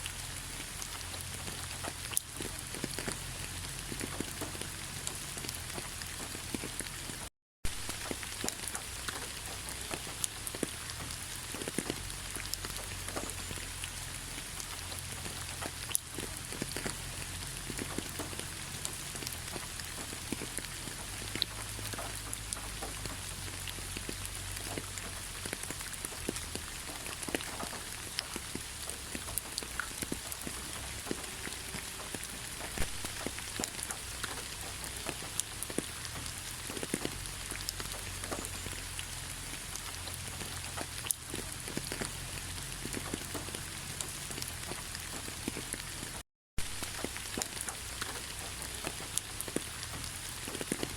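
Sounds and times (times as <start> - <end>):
raindrops tapping: 0.0 - 50.9
steady rain: 0.0 - 50.9.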